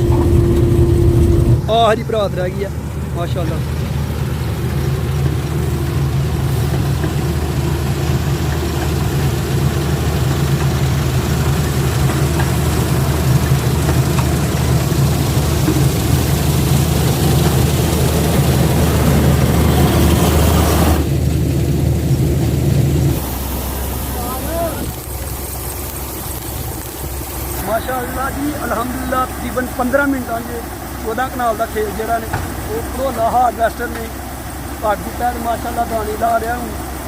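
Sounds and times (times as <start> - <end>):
combine harvester running: 0.0 - 37.0.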